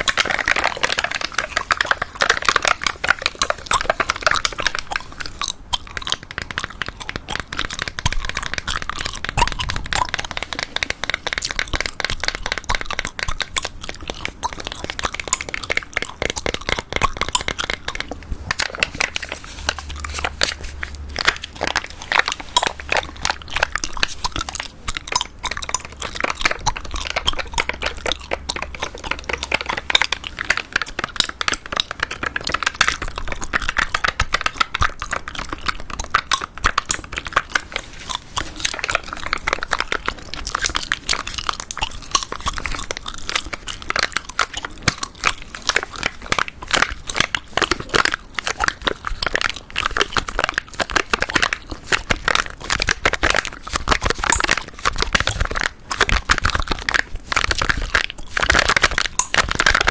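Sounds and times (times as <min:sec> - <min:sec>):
gum chewing: 0:00.0 - 0:59.9.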